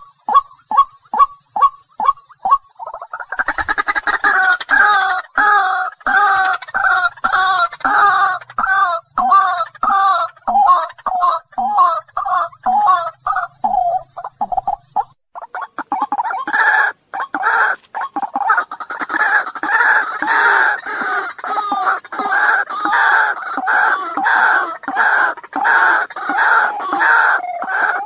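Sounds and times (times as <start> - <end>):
bird harsh croaking calls: 0.0 - 28.0.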